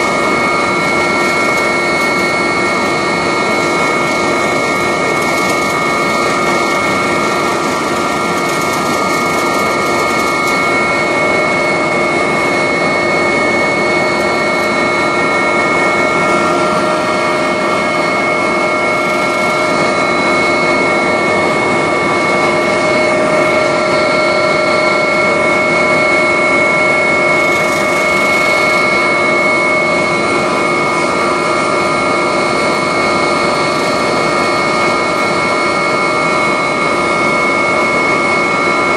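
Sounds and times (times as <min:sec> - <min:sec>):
helicopter rotor and engine noise: 0:00.0 - 0:38.9
high turbine whine: 0:00.0 - 0:38.9.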